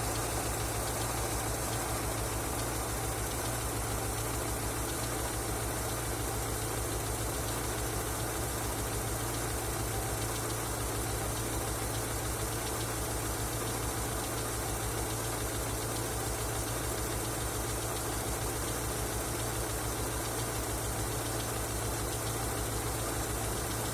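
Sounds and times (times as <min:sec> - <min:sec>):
car engine idling with knock: 0:00.0 - 0:23.9.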